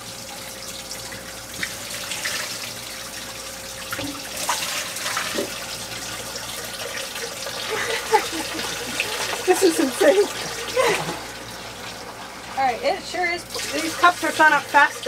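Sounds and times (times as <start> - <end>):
water splashing into sink: 0.0 - 15.0.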